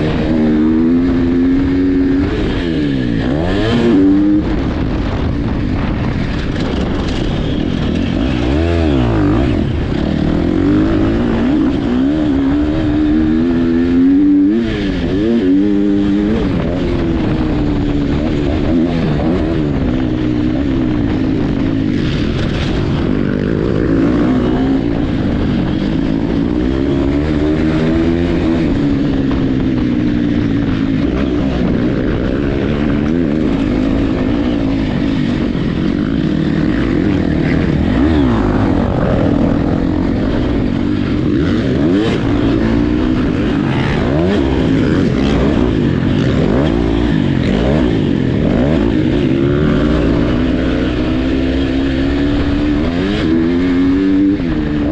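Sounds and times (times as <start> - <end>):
dirt bike engines revving: 0.0 - 54.9.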